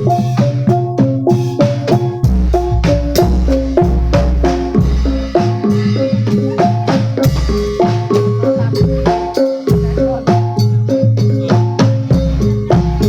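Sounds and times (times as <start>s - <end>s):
metallophones ringing melody: 0.0s - 13.0s
sharp drum strokes: 0.0s - 13.0s.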